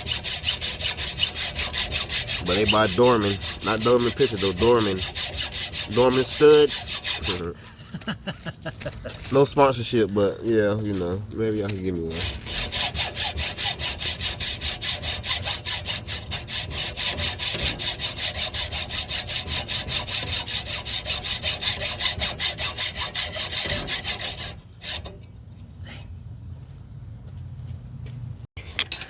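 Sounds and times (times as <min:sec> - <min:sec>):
hacksaw sawing metal: 0:00.0 - 0:07.7, 0:09.1 - 0:25.4.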